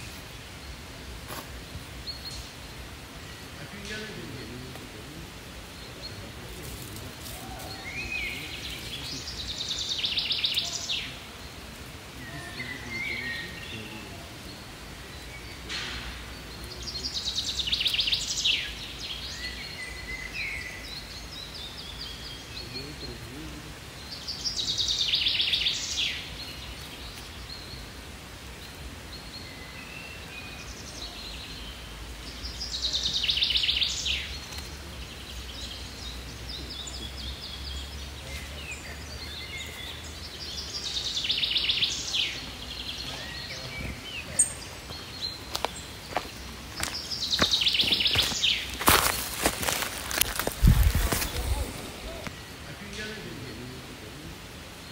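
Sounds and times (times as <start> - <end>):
songbird singing high phrase: 7.4 - 27.9, 28.6 - 54.9.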